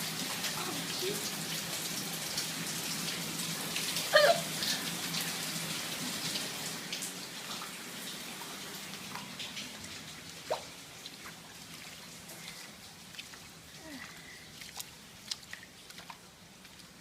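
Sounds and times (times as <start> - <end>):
water dripping and splattering: 0.0 - 17.0.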